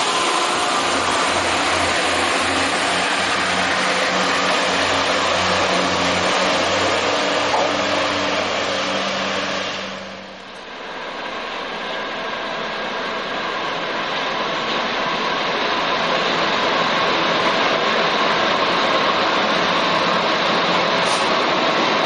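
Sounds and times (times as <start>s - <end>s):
diesel locomotive approaching: 0.0s - 22.0s
diesel railbus engine running: 0.0s - 22.0s
train wheel noise: 0.0s - 22.0s.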